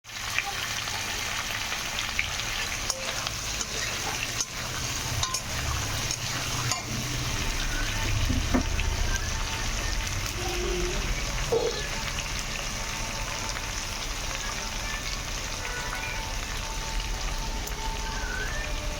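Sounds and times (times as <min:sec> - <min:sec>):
food sizzling in hot oil: 0:00.0 - 0:18.9.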